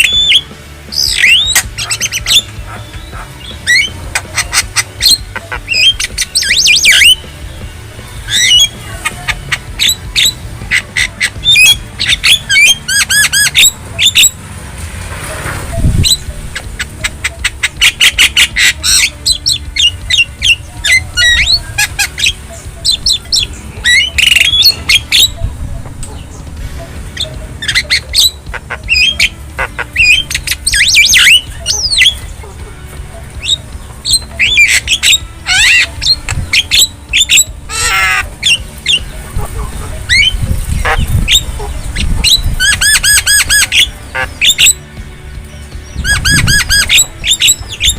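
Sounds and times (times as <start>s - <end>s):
myna singing and calling: 0.0s - 47.9s.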